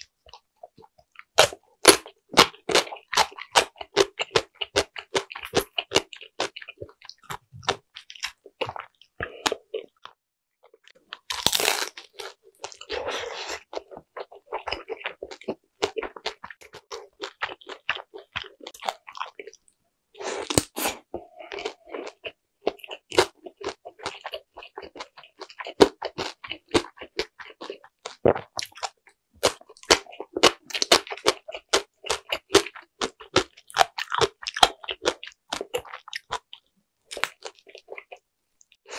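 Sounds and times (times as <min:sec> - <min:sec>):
crunchy chewing: 0:00.0 - 0:38.2.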